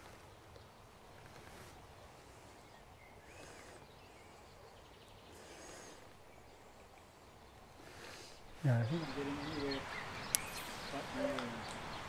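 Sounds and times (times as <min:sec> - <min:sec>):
faint outdoor hiss: 0:00.0 - 0:12.0
soft bird calls: 0:00.0 - 0:12.0.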